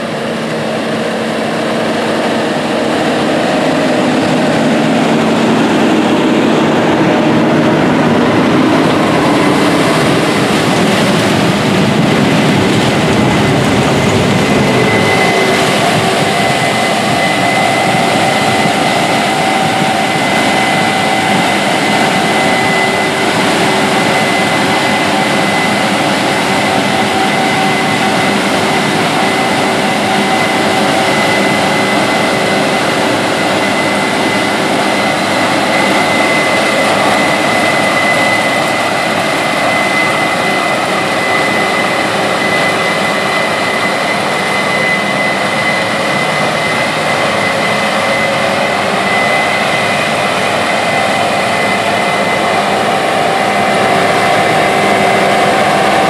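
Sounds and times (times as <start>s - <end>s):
combine harvester machinery running: 0.0s - 56.0s
high whine: 0.0s - 56.0s.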